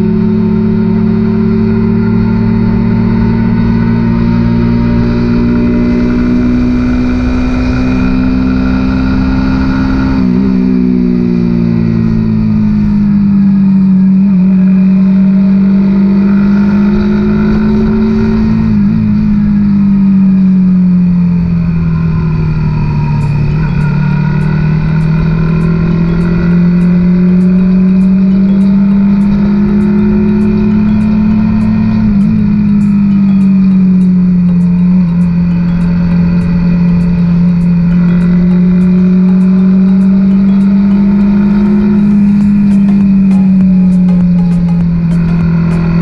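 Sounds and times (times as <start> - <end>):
motorcycle engine cruising: 0.0 - 46.0.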